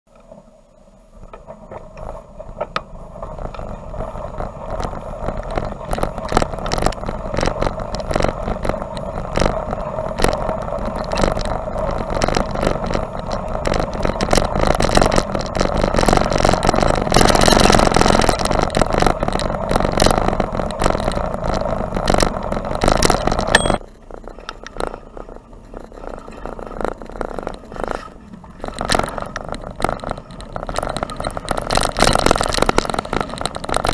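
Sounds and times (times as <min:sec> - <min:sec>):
bicycle tyres rolling on snow: 0:00.1 - 0:33.9.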